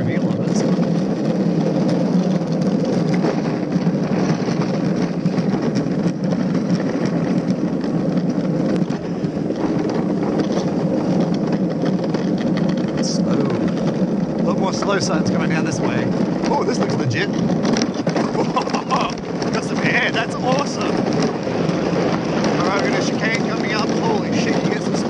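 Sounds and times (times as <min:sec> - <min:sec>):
small rattles and knocks: 0:00.0 - 0:25.0
wheels rumbling on concrete: 0:00.0 - 0:25.0.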